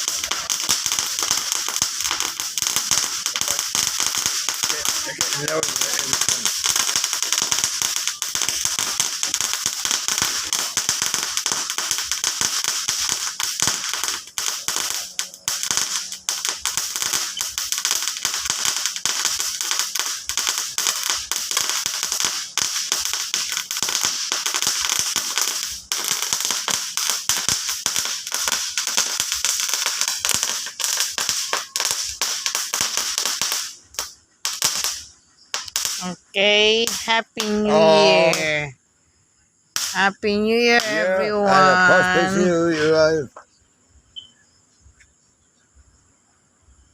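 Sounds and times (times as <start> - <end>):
fireworks crackling: 0.0 - 38.8, 39.7 - 43.4
fireworks hiss: 0.0 - 38.8, 39.6 - 43.4.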